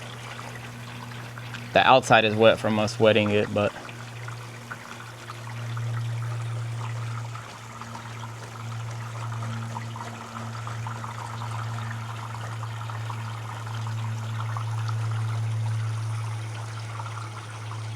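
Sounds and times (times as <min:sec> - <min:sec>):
constant low hum: 0:00.0 - 0:17.9
water trickling through gutter: 0:00.0 - 0:17.9.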